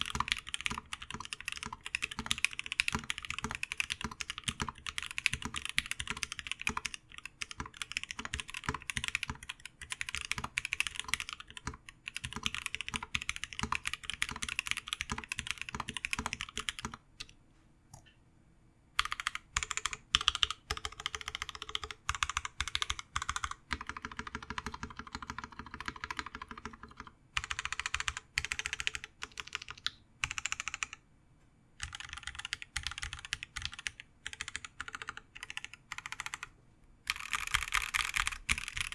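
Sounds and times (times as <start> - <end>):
mechanical keyboard typing: 0.0 - 17.3, 19.0 - 31.0, 31.8 - 36.5, 37.1 - 38.9.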